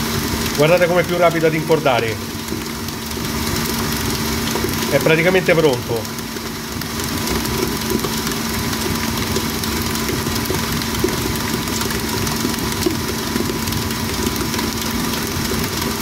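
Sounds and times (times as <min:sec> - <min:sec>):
stand mixer motor humming: 0:00.0 - 0:16.0
wet dough slapping in bowl: 0:00.2 - 0:16.0.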